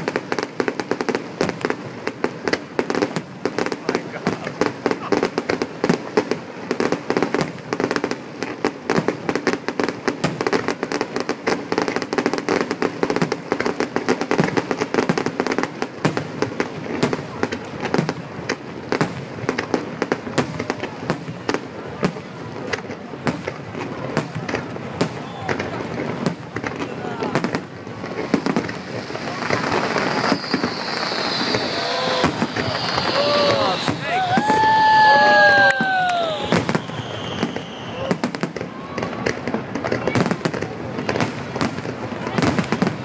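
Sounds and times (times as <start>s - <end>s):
fireworks cracks and bangs: 0.0s - 43.0s.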